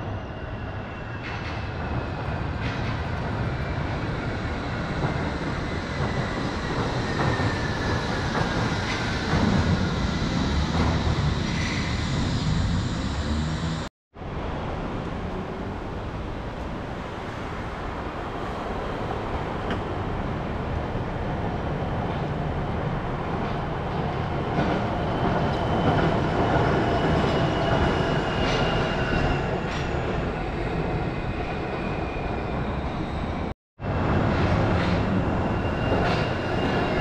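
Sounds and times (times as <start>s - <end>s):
monorail train rumbling: 0.0s - 37.0s.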